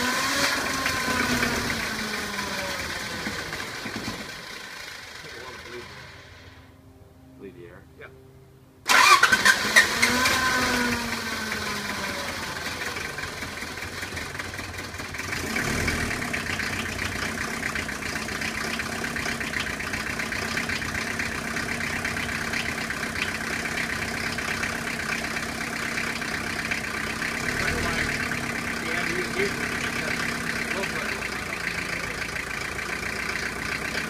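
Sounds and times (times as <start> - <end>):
diesel engine starting and idling: 0.0 - 6.8, 8.8 - 34.0.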